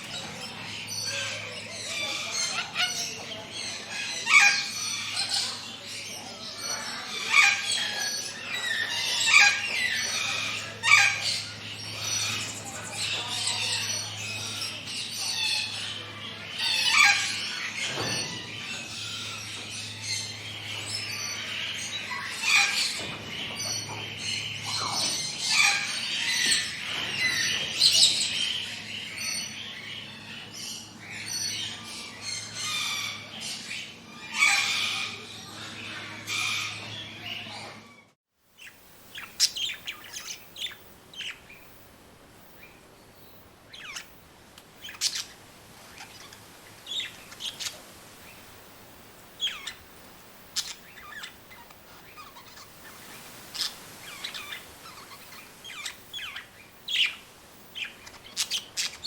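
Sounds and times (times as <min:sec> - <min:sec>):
birds chirping and singing: 0:00.0 - 0:44.2, 0:44.8 - 0:59.0.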